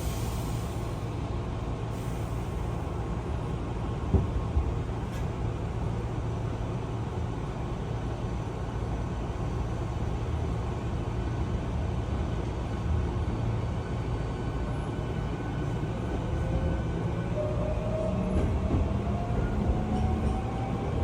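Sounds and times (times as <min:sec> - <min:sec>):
train running low rumble: 0:00.0 - 0:21.0.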